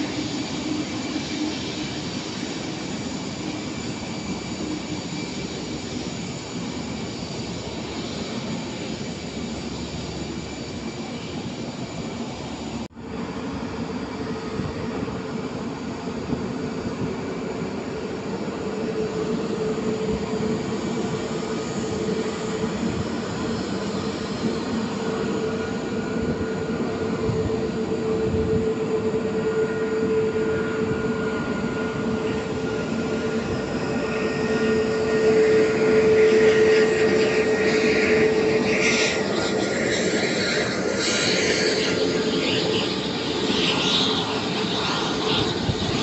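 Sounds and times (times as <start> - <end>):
jet engines rushing and whining: 0.0 - 46.0.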